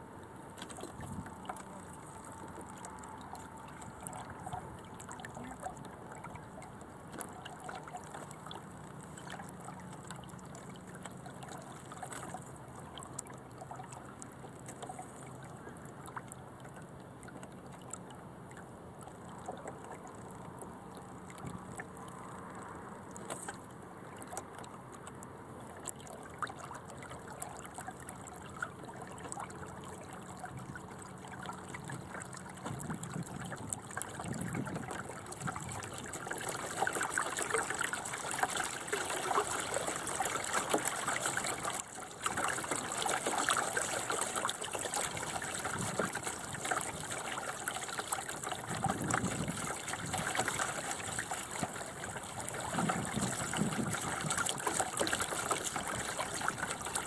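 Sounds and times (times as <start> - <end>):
water rushing along a hull: 0.0 - 57.0.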